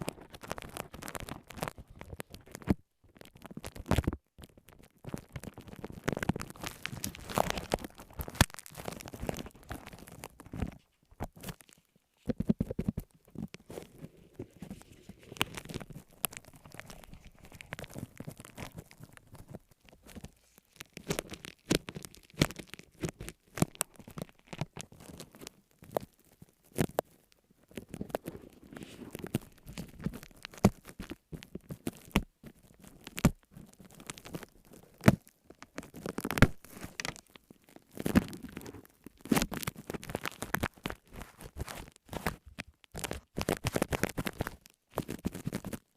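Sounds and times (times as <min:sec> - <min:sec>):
crinkling: 0:00.0 - 0:45.9.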